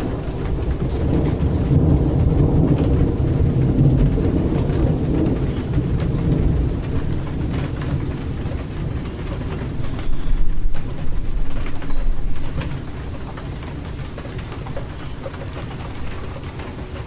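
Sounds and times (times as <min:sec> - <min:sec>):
low rolling thunder: 0:00.0 - 0:17.0
steady rain hiss: 0:00.0 - 0:17.0.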